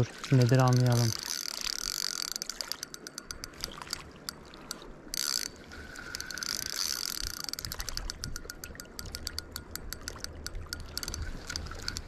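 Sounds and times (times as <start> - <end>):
fishing reel ratchet clicking: 0.4 - 12.0.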